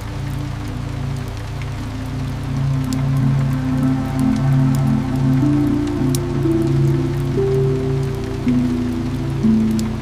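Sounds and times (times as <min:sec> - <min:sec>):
calm ambient music: 0:00.0 - 0:10.0
heavy rain falling: 0:00.0 - 0:10.0
raindrops ticking: 0:00.0 - 0:10.0.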